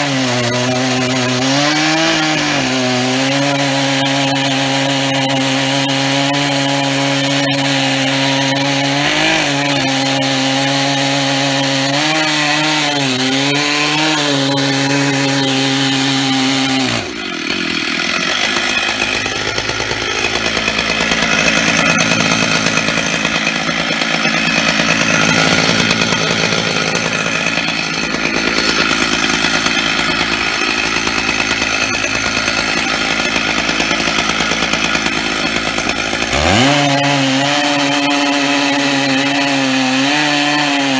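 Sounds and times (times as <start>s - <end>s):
chainsaw cutting log at full throttle: 0.0s - 40.9s.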